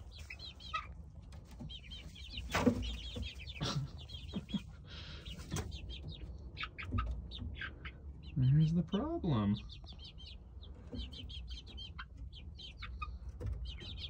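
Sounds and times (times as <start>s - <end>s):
chicken clucks: 0.0s - 14.0s
chicks peeping: 0.0s - 14.0s.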